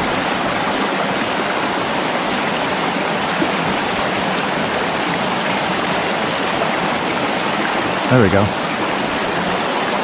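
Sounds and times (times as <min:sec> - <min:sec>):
creek water rushing over rocks: 0:00.0 - 0:10.0.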